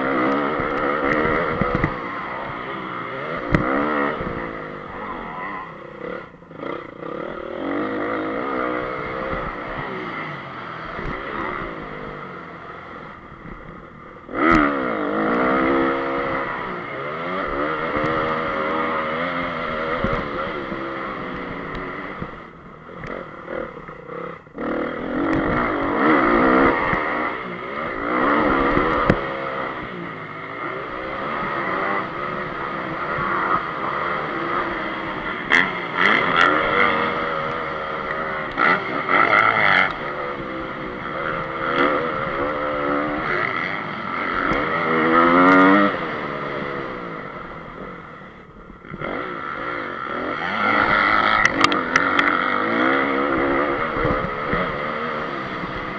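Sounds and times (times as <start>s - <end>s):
motocross engine revving: 0.0s - 55.9s.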